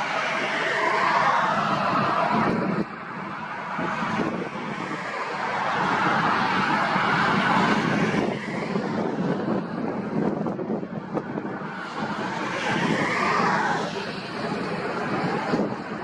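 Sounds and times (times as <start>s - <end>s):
jet engines running: 0.0s - 16.0s
wind buffeting microphone: 0.0s - 16.0s.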